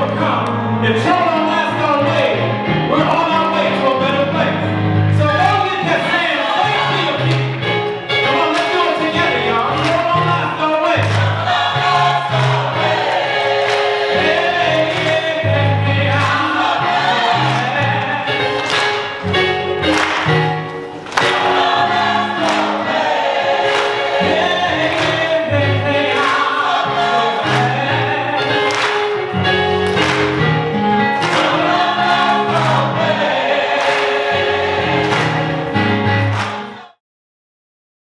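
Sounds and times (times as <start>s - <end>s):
choir singing gospel song: 0.0s - 37.0s.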